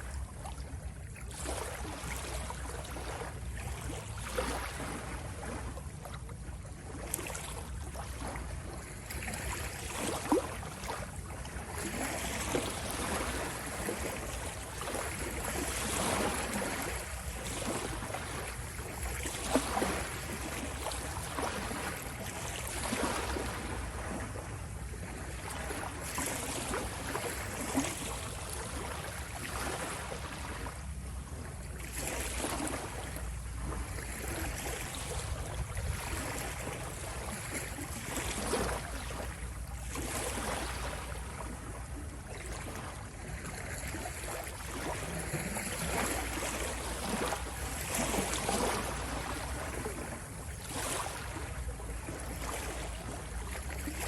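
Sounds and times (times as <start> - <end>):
ocean waves washing ashore: 9.1 - 54.0.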